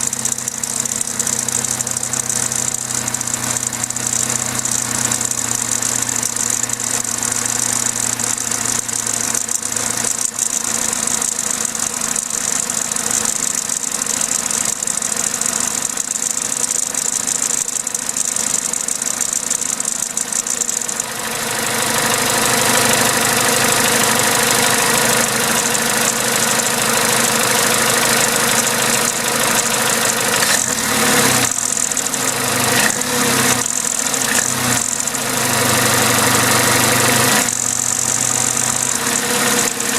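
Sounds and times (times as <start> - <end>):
petrol engine running: 0.0 - 39.9.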